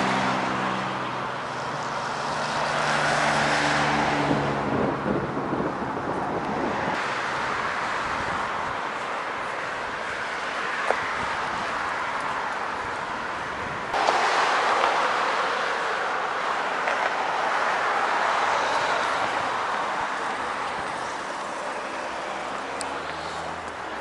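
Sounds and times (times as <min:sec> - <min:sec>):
traffic rushing past: 0:00.0 - 0:24.0.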